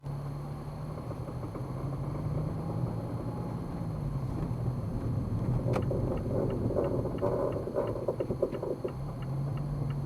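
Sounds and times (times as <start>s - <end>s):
low rumbling: 1.0s - 9.5s.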